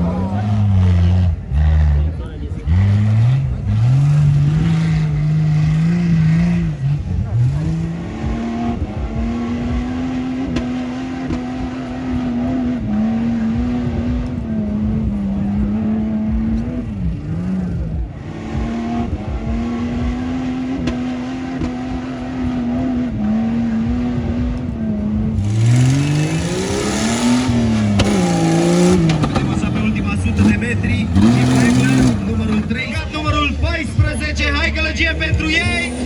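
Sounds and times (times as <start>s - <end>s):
vehicle engine revving: 0.0s - 36.0s.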